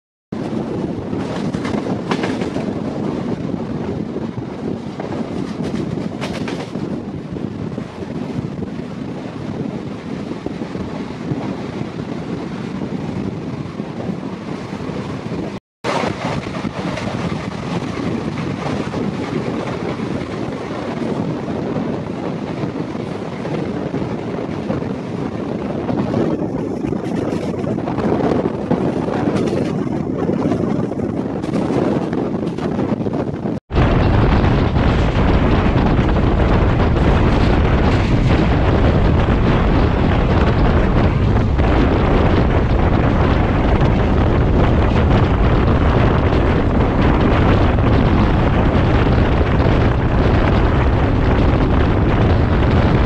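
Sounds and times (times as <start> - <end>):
freight train wheels rumbling on rails: 0.3 - 53.0
wind buffeting microphone: 0.3 - 53.0.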